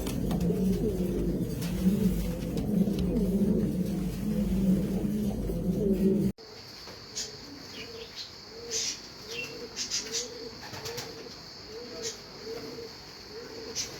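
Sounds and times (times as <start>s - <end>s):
pigeon cooing: 0.0s - 6.4s, 7.2s - 13.9s.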